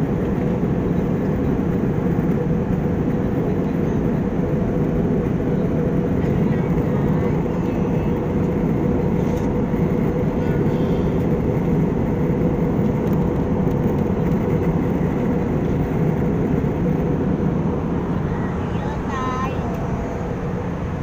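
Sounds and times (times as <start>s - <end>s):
jet airliner cabin roar: 0.0s - 21.0s.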